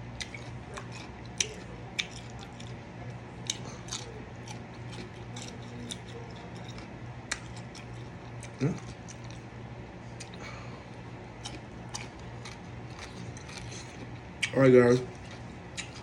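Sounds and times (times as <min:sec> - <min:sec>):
steady low hum: 0:00.0 - 0:16.0
wet eating clicks and smacks: 0:00.2 - 0:02.8, 0:03.4 - 0:09.5, 0:11.4 - 0:16.0.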